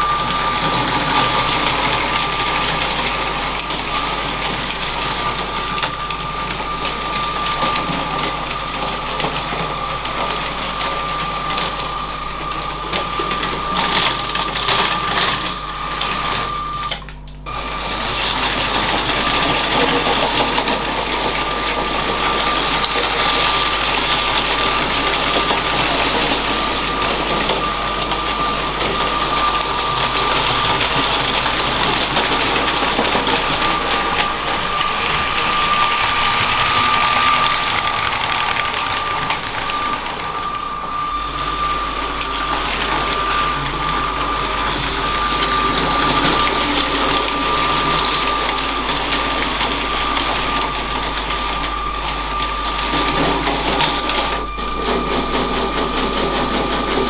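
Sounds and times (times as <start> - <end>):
toy train motor whine: 0.0 - 57.0
wheels rattling on plastic track: 0.0 - 57.0.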